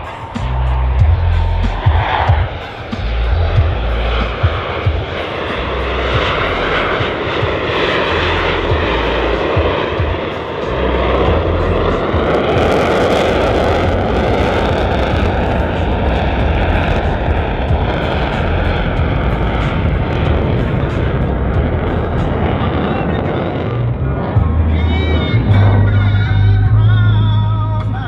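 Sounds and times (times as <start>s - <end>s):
jet engine rush: 0.0s - 28.0s.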